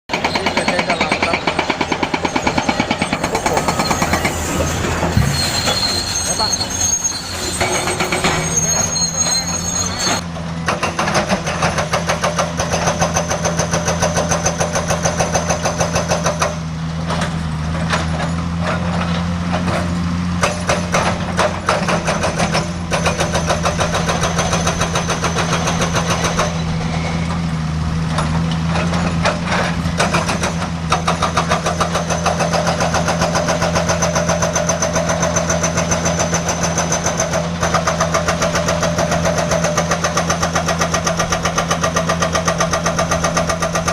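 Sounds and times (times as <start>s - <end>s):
diesel engine running: 0.1s - 10.8s, 12.9s - 43.9s.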